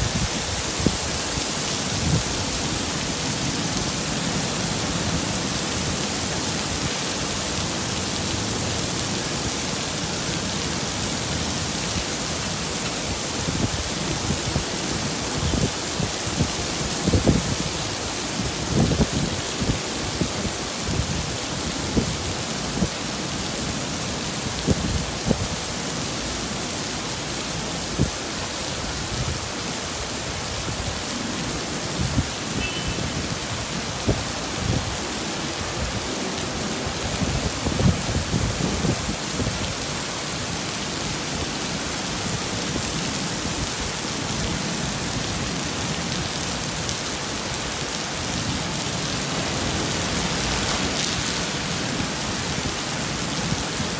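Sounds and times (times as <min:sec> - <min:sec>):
heavy rain on pavement: 0:00.0 - 0:53.9.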